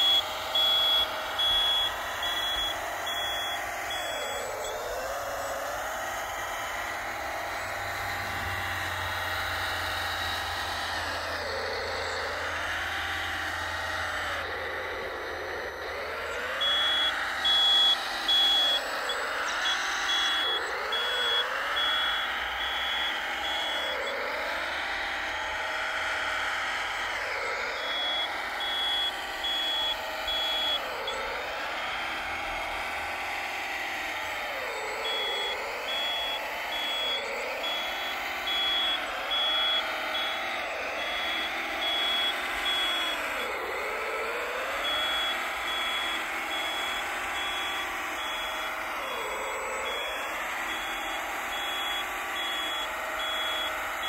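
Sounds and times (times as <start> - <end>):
reversing beeper short beeps: 0.0 - 7.0, 7.6 - 54.0
toy loader motor whine: 0.0 - 54.0.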